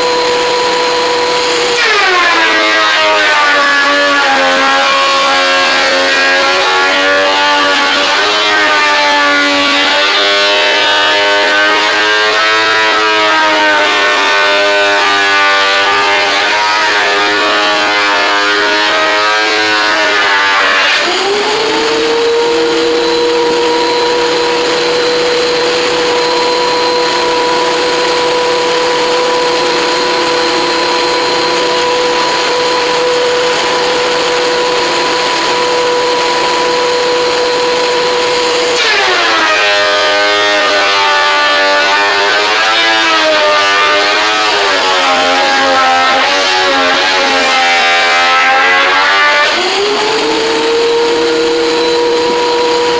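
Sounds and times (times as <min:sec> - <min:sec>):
thickness planer motor whining: 0:00.0 - 0:52.9.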